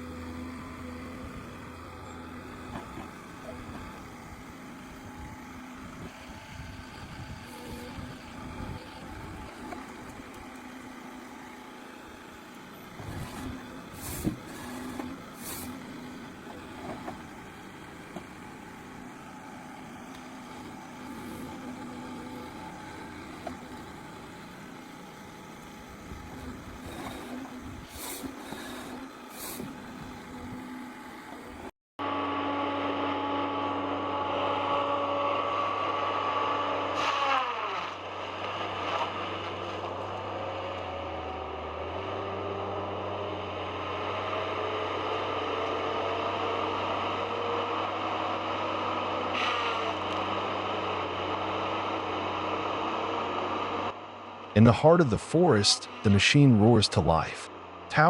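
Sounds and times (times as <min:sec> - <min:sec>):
harvester engine running: 0:00.0 - 0:31.7, 0:37.8 - 0:58.0.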